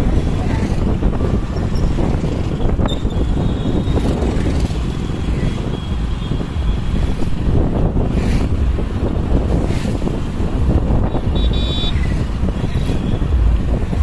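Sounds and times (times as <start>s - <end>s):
motorcycles passing: 0.0s - 14.0s
road and traffic noise: 0.0s - 14.0s
wind rumble on microphone: 0.0s - 14.0s.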